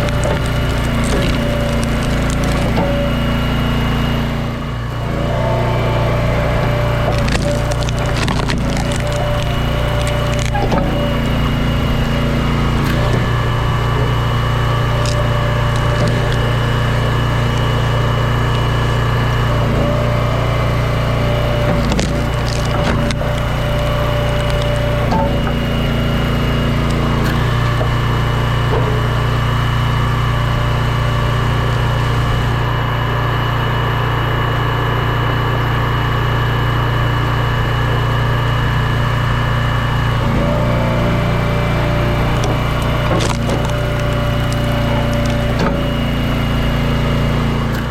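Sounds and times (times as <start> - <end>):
wood cracking and splintering: 0.0 - 33.0, 39.2 - 47.9
log splitter running: 0.0 - 47.9.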